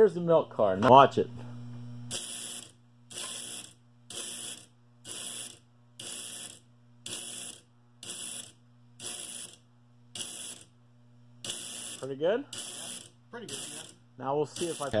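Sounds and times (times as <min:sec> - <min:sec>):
steady electrical hum: 0:00.0 - 0:15.0
solenoid buzzing in pulses: 0:01.2 - 0:15.0.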